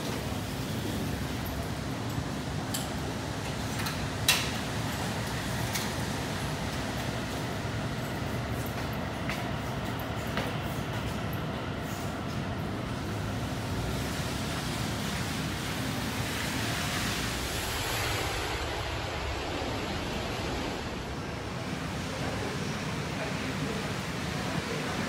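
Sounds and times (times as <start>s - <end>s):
city street ambience hiss: 0.0s - 25.0s.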